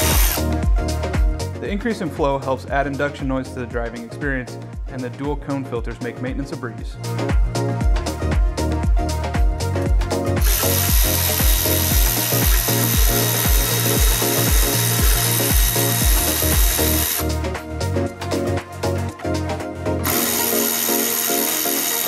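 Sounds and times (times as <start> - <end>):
electronic music with kick drum: 0.0 - 22.0.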